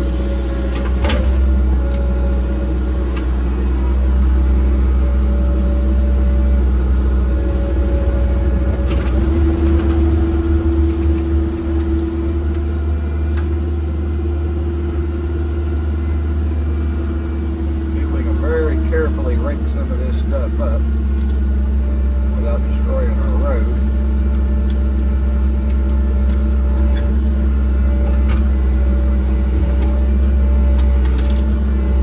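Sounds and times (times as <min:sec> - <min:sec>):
machine engine running under load: 0:00.0 - 0:32.0.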